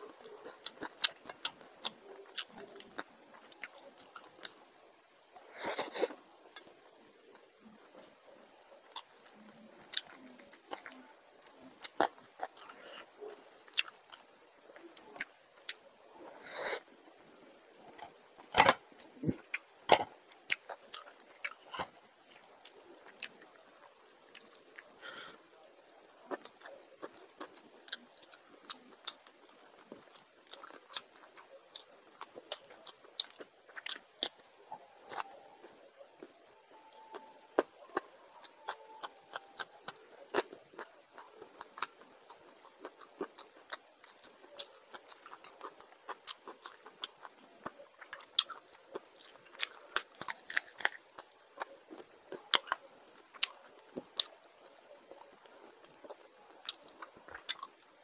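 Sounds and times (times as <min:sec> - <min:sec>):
person chewing and smacking: 0:00.0 - 0:04.7, 0:08.8 - 0:15.8, 0:17.9 - 0:58.0.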